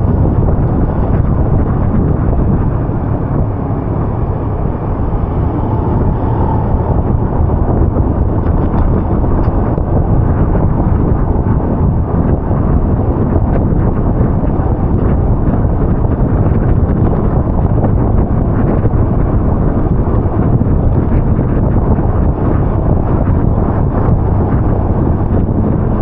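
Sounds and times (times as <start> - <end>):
vehicle low rumble on wet streets: 0.0 - 26.0
wind buffeting microphone: 0.0 - 26.0.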